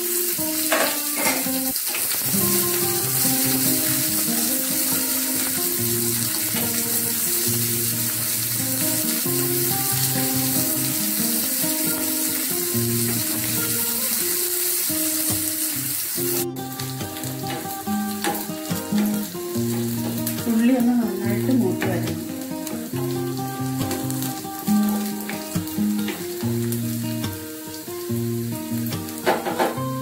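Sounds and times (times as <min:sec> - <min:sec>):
background music with held notes: 0:00.0 - 0:30.0
shallots sizzling in hot oil: 0:00.0 - 0:30.0.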